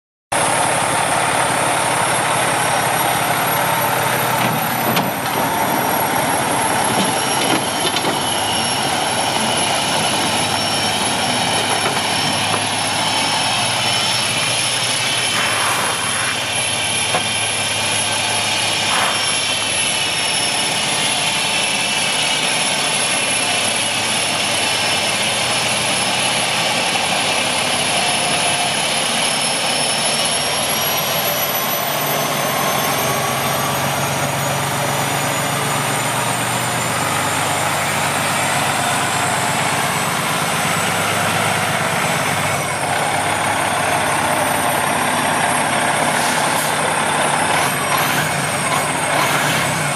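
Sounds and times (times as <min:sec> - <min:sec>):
diesel truck engine running: 0:00.3 - 0:49.9
high-pitched whine: 0:00.4 - 0:49.9.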